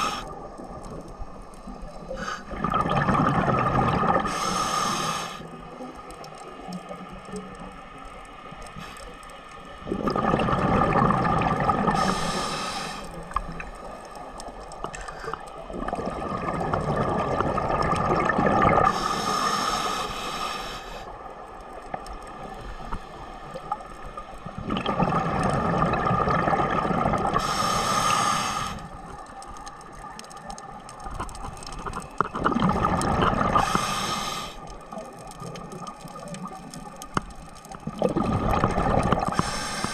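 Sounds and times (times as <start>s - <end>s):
water washing and gurgling: 0.0s - 39.9s.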